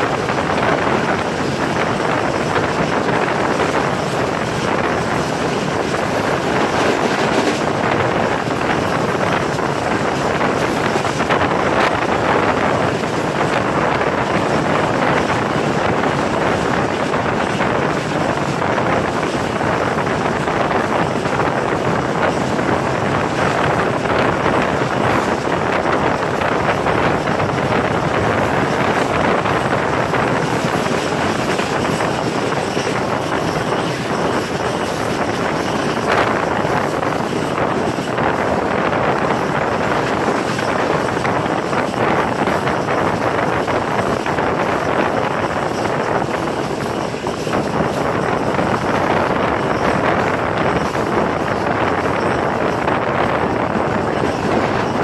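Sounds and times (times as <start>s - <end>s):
train running noise: 0.0s - 55.0s
wind rushing over microphone: 0.0s - 55.0s.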